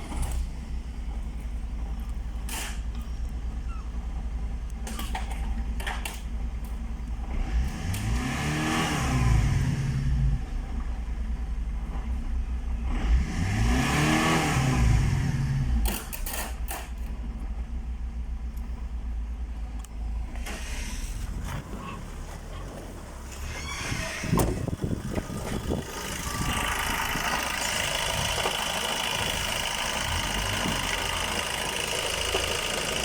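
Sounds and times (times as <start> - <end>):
diesel engine idling and revving: 0.0 - 33.0.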